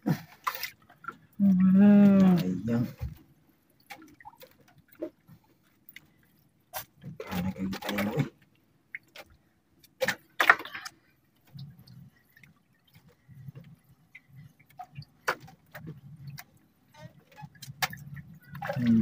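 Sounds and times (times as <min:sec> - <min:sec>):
low gurgling of water: 0:00.0 - 0:19.0
water splashing and dripping: 0:00.4 - 0:19.0.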